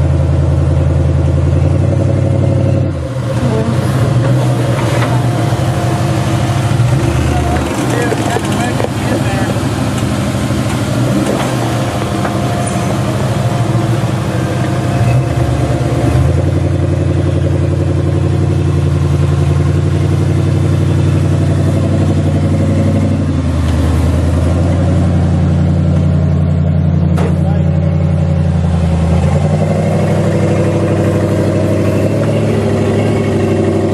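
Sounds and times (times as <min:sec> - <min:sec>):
off-road engine under load: 0:00.0 - 0:33.9.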